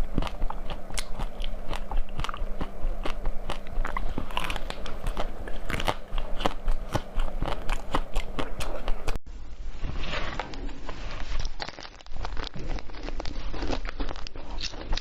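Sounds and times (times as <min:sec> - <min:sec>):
chewing crunchy food: 0:00.0 - 0:09.2, 0:10.2 - 0:15.0.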